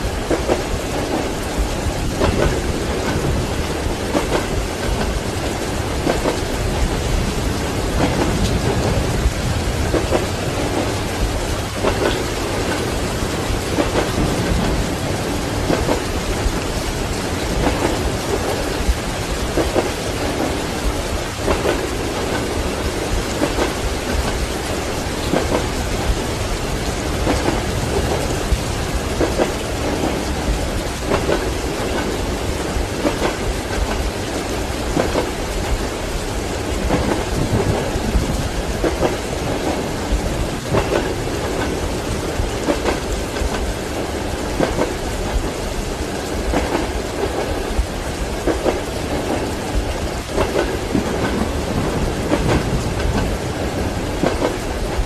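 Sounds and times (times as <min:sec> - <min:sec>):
low rumbling thunder: 0:00.0 - 0:45.6, 0:46.3 - 0:55.0
heavy rain: 0:00.0 - 0:55.0
train wheels clattering: 0:00.0 - 0:55.0.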